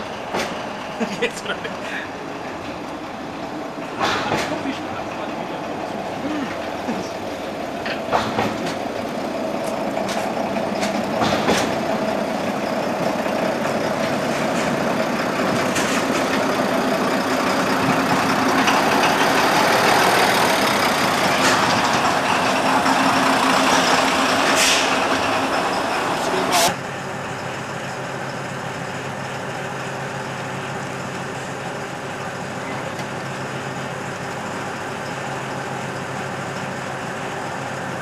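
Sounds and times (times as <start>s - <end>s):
diesel railcar engine humming: 0.0s - 38.0s
wheels clicking on track: 0.0s - 38.0s.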